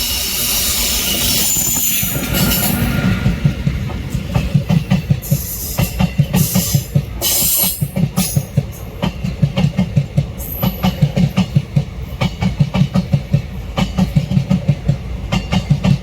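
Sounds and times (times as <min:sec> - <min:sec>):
train wheels clattering over rail joints: 0:00.0 - 0:16.0.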